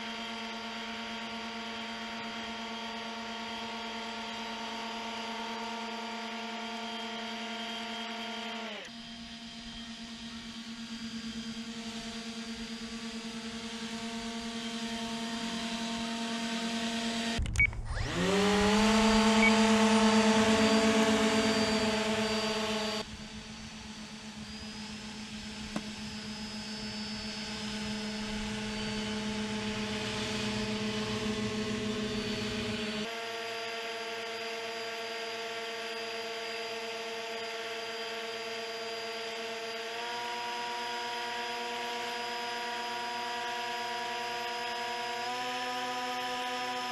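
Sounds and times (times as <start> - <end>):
hovercraft motors whining: 0.0 - 46.8.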